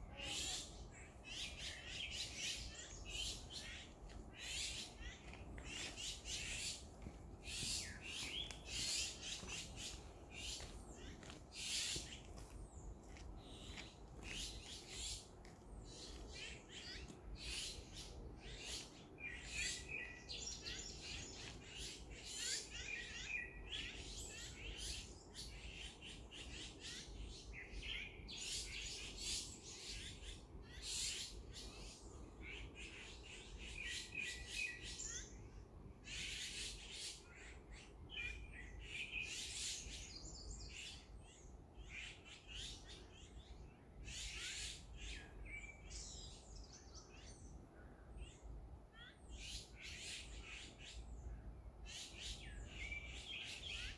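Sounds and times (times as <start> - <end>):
wild birds chirping: 0.0 - 53.9.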